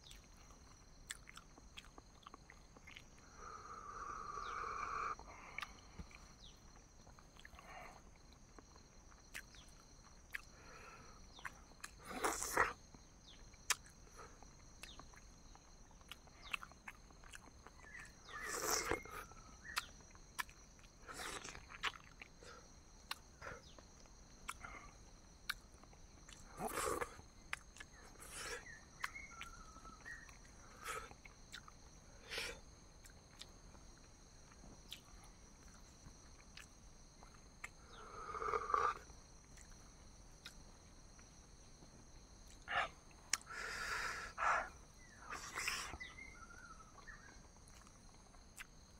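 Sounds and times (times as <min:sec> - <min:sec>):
chewing with mouth clicks: 0:00.0 - 0:03.4, 0:04.4 - 0:10.6, 0:11.2 - 0:38.0, 0:38.6 - 0:41.3, 0:41.9 - 0:43.7, 0:44.4 - 0:48.9.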